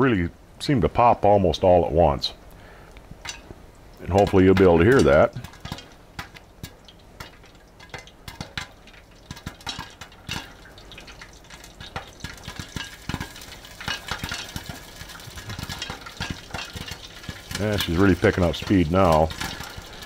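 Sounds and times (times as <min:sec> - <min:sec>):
grease sizzling: 0:00.6 - 0:20.0
popcorn popping: 0:03.0 - 0:20.0.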